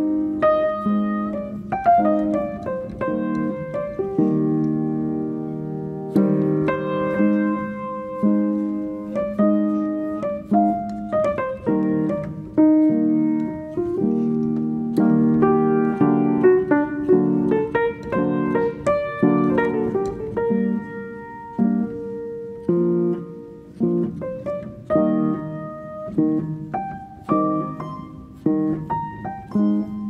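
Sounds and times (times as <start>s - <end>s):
slow piano music: 0.0s - 30.0s.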